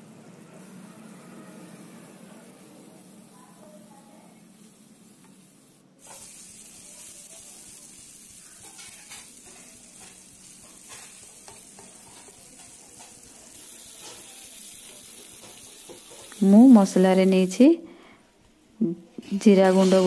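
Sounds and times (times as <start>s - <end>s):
onions sizzling in oil: 0.6s - 17.8s, 19.2s - 20.0s.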